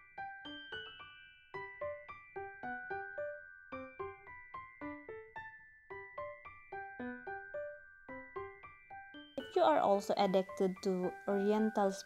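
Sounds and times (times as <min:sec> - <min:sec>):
light keyboard melody: 0:00.0 - 0:12.0.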